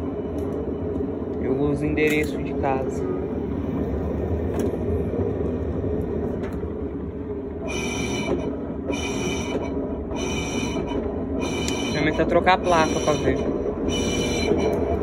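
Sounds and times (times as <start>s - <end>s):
washing machine rumbling: 0.0s - 15.0s.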